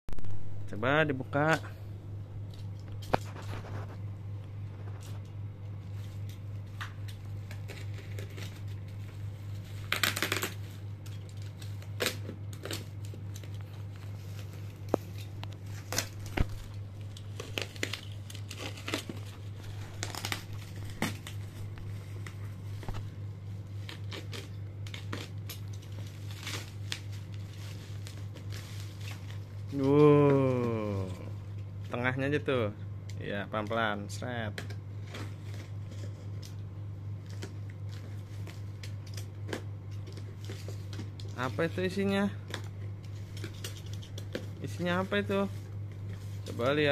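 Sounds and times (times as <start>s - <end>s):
low hum: 0.1s - 46.7s
plastic wrapping crinkling and ripping: 2.4s - 31.3s, 34.9s - 46.9s.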